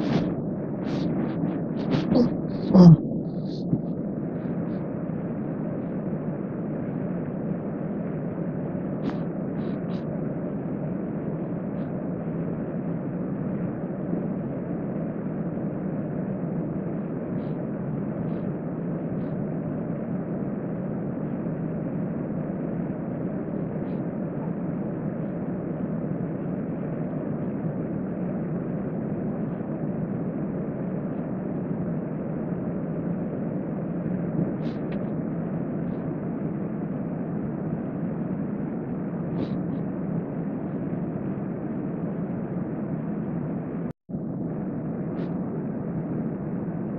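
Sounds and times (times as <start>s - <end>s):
ventilation fan rushing: 0.0s - 46.9s.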